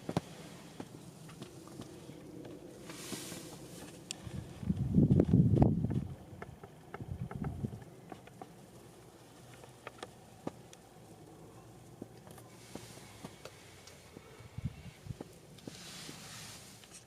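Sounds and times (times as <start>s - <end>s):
soft rustle: 0.0s - 5.3s, 8.6s - 17.0s.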